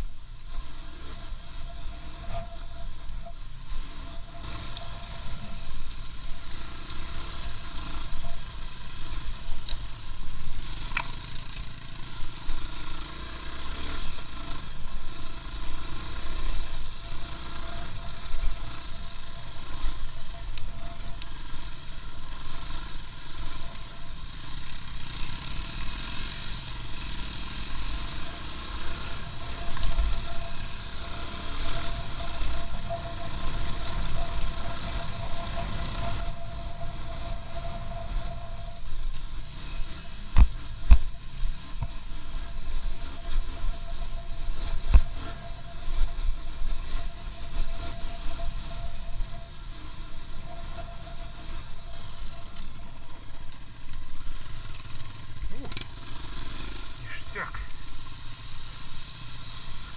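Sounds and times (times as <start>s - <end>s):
thin steady whine: 0.0s - 59.9s
vehicle engine and road noise: 0.0s - 59.9s.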